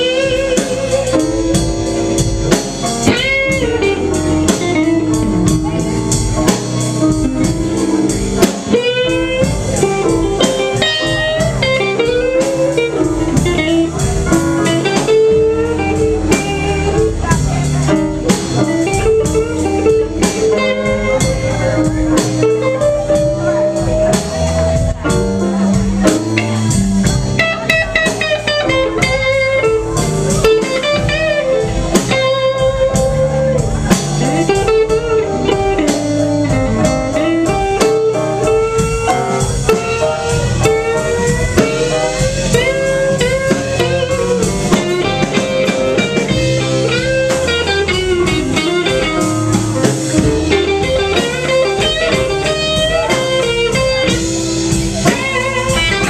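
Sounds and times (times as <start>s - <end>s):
drum kit: 0.0s - 56.0s
electric bass: 0.0s - 56.0s
electric guitar with bent notes: 0.0s - 56.0s
keyboard: 0.0s - 56.0s.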